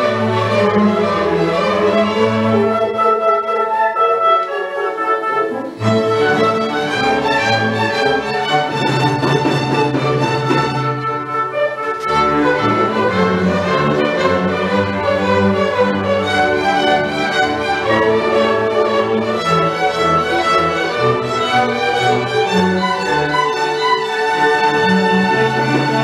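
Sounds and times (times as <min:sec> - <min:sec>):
string orchestra playing classical piece: 0:00.0 - 0:26.0.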